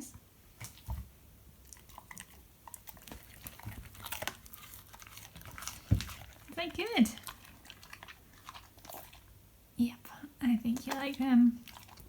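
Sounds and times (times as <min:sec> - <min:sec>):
dog chewing and crunching treat: 0:00.6 - 0:09.4, 0:10.6 - 0:12.0.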